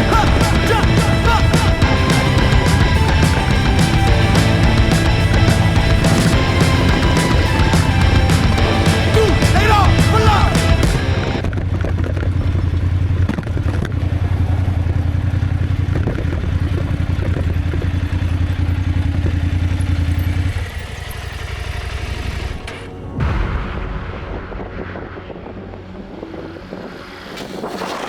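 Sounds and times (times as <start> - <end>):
motorcycle engine running: 0.0 - 22.7.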